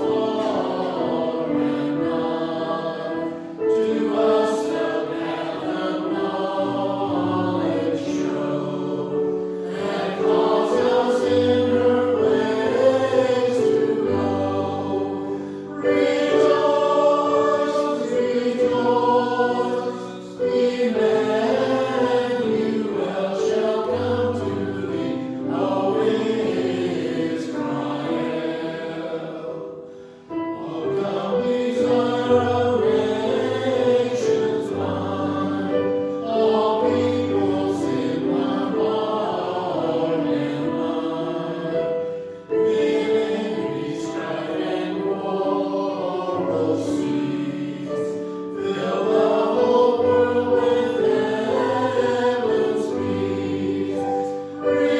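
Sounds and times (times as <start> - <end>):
choir singing a hymn: 0.0 - 54.9.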